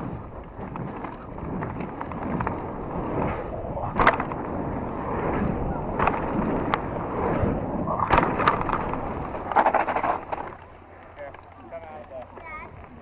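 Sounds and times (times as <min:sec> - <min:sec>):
bike knocking and rattling: 0:00.0 - 0:13.0
bike tyres and wind rush: 0:00.0 - 0:13.0.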